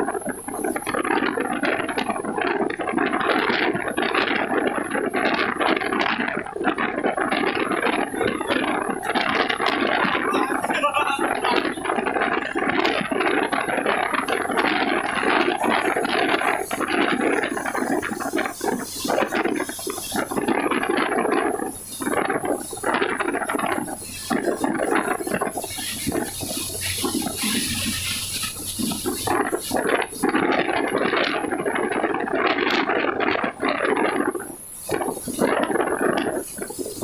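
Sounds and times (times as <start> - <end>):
heavy rain and wind: 0.0 - 37.0
thin high whine: 0.0 - 37.0.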